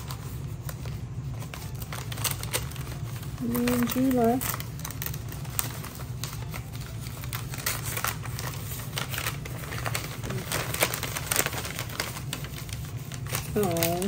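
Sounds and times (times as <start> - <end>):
packing paper crinkling: 0.0 - 14.0.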